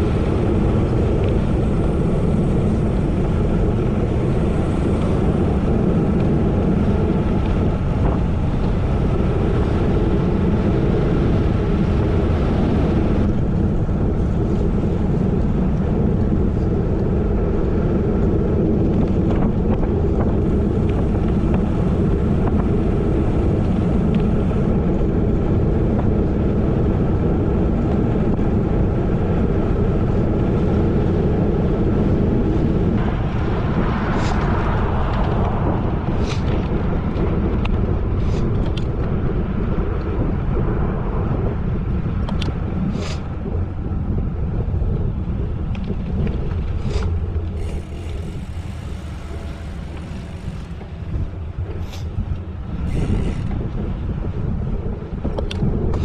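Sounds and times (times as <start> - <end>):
bicycle rolling noise: 0.0 - 56.0
wind rush on microphone: 0.0 - 56.0.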